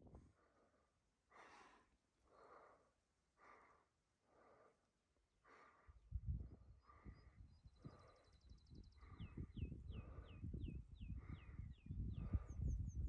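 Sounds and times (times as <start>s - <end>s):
person panting: 0.3s - 10.6s, 11.2s - 12.8s.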